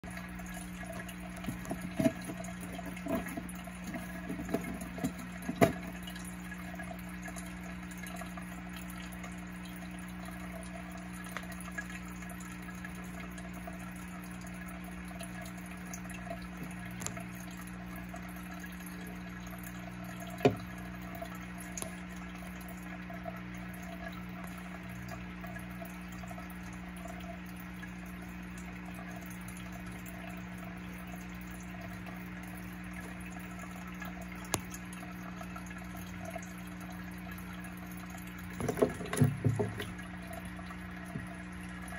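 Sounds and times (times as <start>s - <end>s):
water pump hum and trickle: 0.0s - 41.9s.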